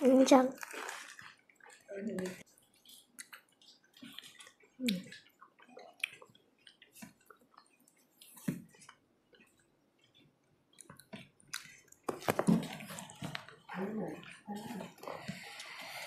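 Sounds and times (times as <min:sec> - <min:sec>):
child chewing food: 0:00.0 - 0:16.0.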